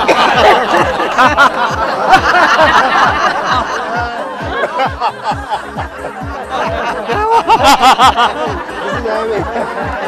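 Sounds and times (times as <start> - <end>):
crowd laughing: 0.0 - 10.0.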